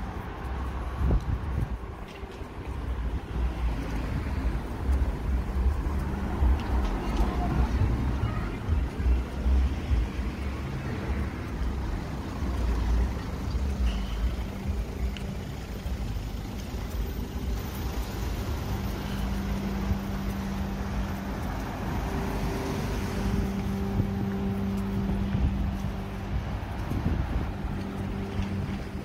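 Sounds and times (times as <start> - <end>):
car engines passing: 0.0 - 29.0
low engine hum: 0.0 - 29.0.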